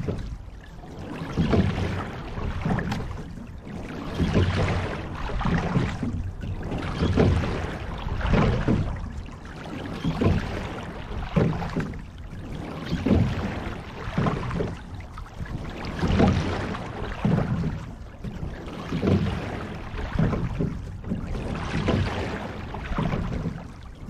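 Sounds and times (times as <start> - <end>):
water rushing along boat hull: 0.0 - 24.0.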